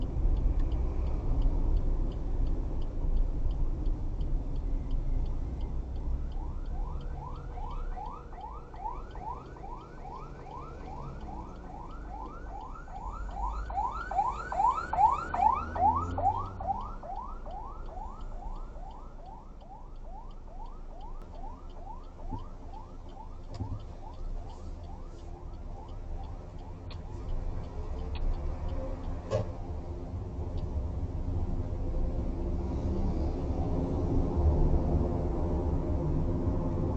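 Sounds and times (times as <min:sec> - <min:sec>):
bus engine rumbling: 0:00.0 - 0:19.6, 0:20.8 - 0:36.9.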